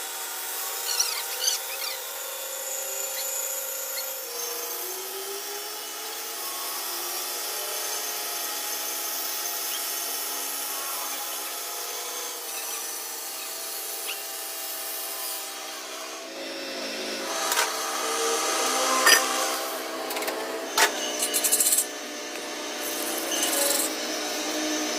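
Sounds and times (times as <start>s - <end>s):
power tool whining hum: 0.0s - 24.9s.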